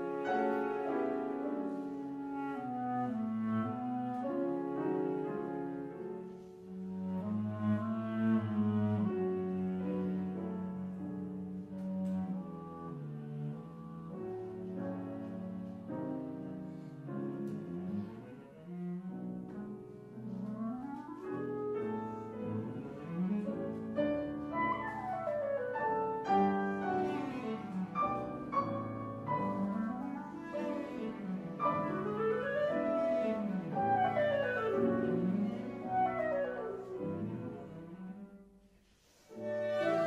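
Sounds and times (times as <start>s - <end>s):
instrumental silent film music: 0.0s - 40.0s.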